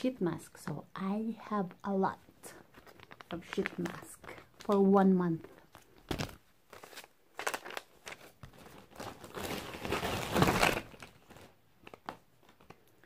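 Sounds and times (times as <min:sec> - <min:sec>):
plastic packaging crinkling: 0:02.5 - 0:13.0.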